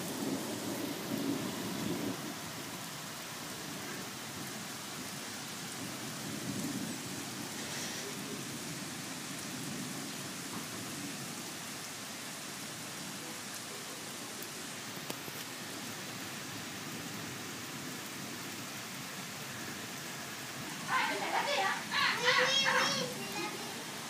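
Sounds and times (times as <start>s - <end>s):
heavy rain downpour: 0.0s - 24.0s.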